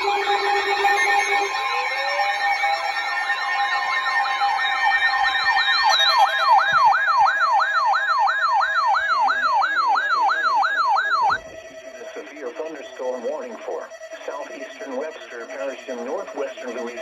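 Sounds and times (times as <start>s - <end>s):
electronic sirens yelping: 0.0s - 17.0s.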